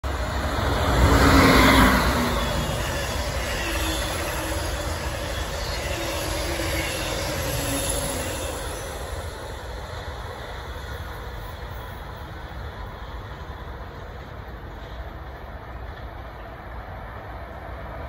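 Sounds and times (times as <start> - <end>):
electric train passing: 0.0 - 18.0
train wheels rumbling on rails: 0.0 - 18.0.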